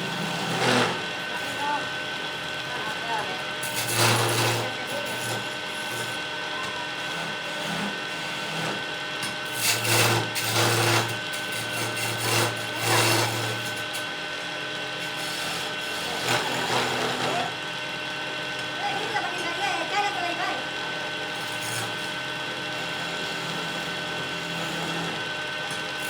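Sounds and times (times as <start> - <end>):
tool scraping spinning wood: 0.0 - 26.0
wood lathe motor whine: 0.0 - 26.0.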